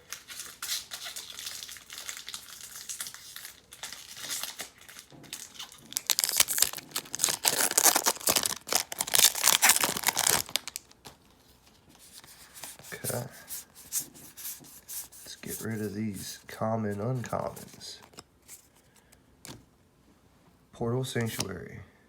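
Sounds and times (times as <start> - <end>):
foil wrapper crinkling and tearing: 0.0 - 18.8.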